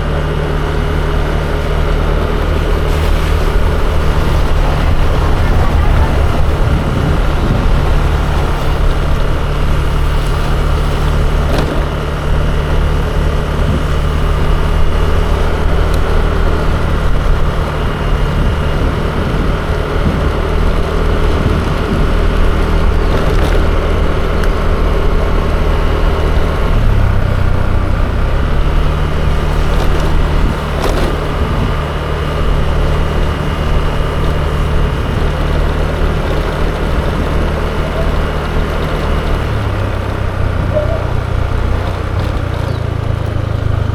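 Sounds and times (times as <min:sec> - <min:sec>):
scooter engine running: 0:00.0 - 0:43.9.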